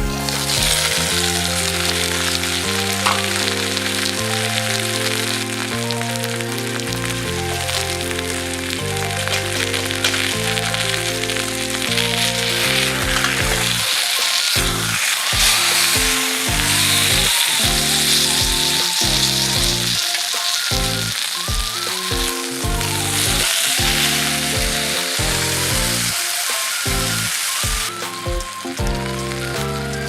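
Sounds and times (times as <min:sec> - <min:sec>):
background music with stepping melody: 0:00.0 - 0:30.0
food sizzling in a hot pan: 0:00.2 - 0:28.2.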